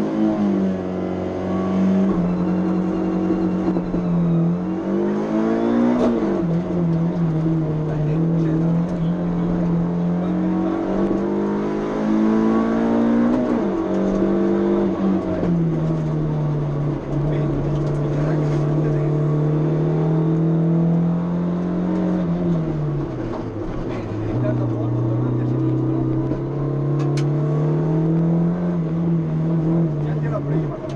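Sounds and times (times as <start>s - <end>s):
car engine at high revs: 0.0s - 30.9s.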